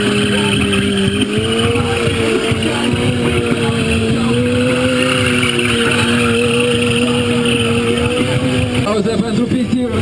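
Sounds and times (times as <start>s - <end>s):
motorcycle engine revving high: 0.0s - 9.1s.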